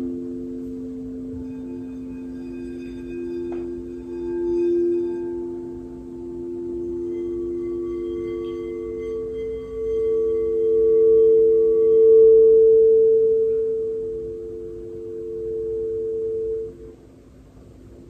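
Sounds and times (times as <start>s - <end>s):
lower bowl tones ringing: 0.0s - 18.0s
singing bowl ringing tone: 0.0s - 18.0s.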